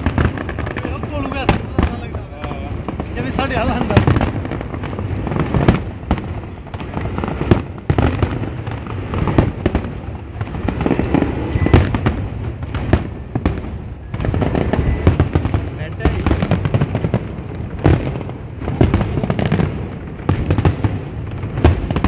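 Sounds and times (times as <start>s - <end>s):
fireworks booms and bangs: 0.0s - 22.0s.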